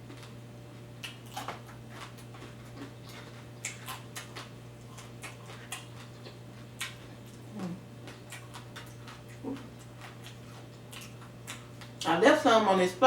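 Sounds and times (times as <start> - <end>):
chewing crunchy chips: 0.0 - 12.1.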